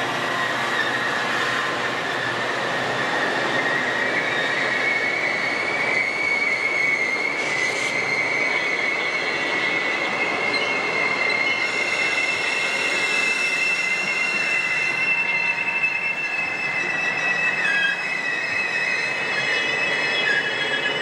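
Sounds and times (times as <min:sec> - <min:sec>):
high-pitched wheel squeal: 0:00.0 - 0:21.0
train wheels rumbling on rail: 0:00.0 - 0:21.0.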